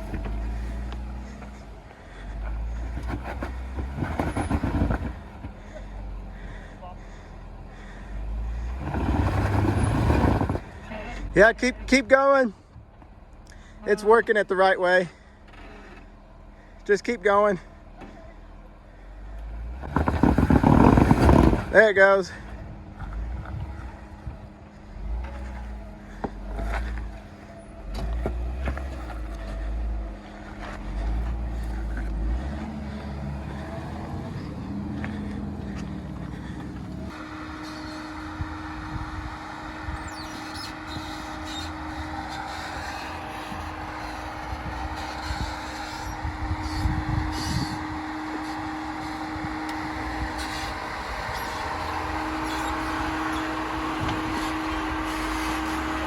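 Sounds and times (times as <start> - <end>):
off-road vehicle engine revving: 0.0 - 12.6, 13.3 - 56.0.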